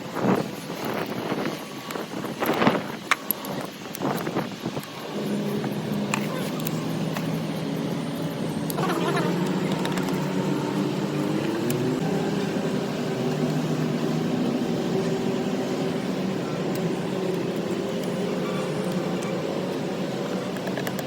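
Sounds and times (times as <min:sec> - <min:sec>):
engine running: 0:00.5 - 0:21.0.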